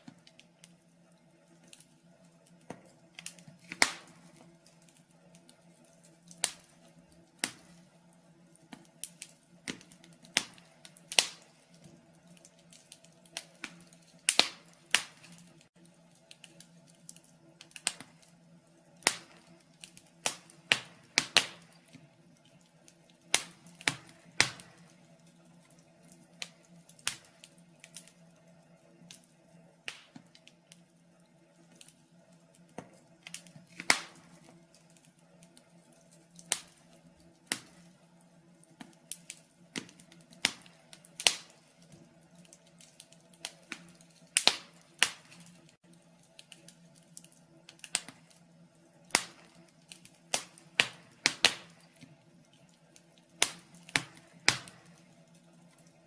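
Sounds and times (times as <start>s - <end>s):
faint steady hum: 0.0s - 56.0s
wood fire crackling: 0.0s - 56.0s.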